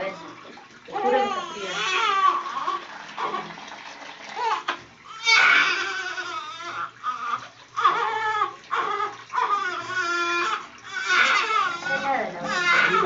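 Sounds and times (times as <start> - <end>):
infant crying: 0.9 - 3.4, 4.4 - 13.0.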